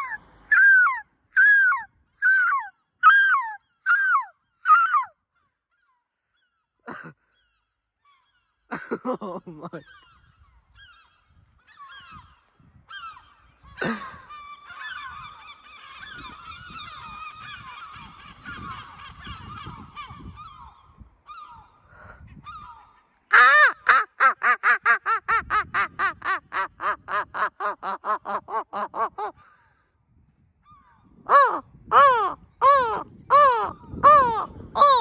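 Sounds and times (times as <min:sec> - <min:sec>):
gull long call: 0:00.0 - 0:05.9, 0:08.1 - 0:29.7, 0:30.7 - 0:35.0
faint overlapping bird calls: 0:00.0 - 0:25.3, 0:26.1 - 0:35.0.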